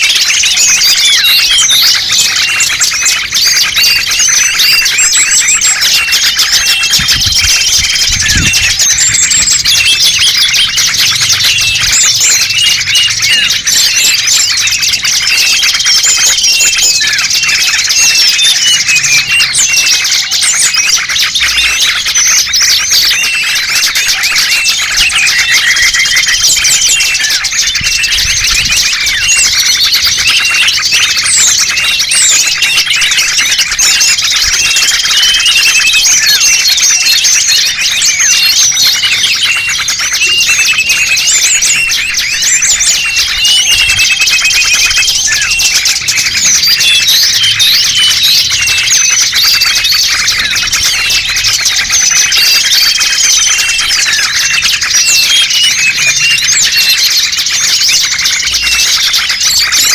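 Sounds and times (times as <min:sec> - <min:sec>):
chorus of small birds calling: 0:00.0 - 0:59.9.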